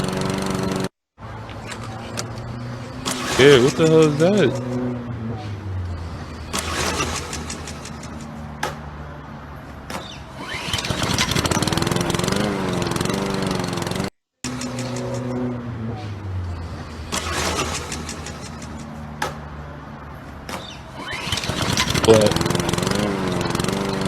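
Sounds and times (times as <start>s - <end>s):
lawnmower engine starting and running: 0.0s - 5.0s, 6.1s - 8.7s, 10.0s - 19.3s, 19.9s - 24.0s.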